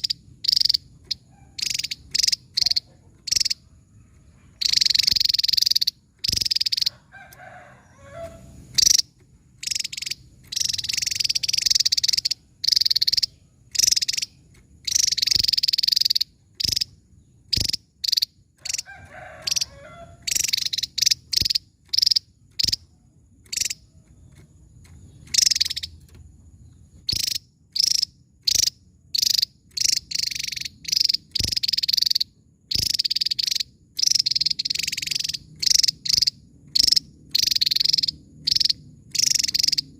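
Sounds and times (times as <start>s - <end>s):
bird singing high sharp bursts: 0.0s - 3.6s, 4.5s - 22.9s, 25.1s - 26.0s, 27.0s - 39.9s.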